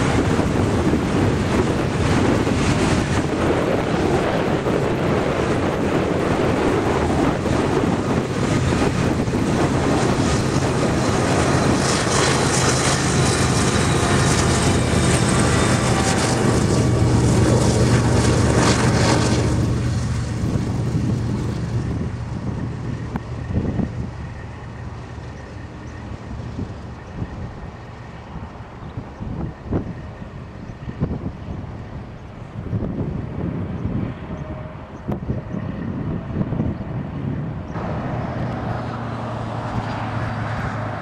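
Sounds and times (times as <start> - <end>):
diesel locomotive drone: 0.0 - 41.0
wheel and rail noise: 0.0 - 41.0
wind buffeting microphone: 0.0 - 41.0.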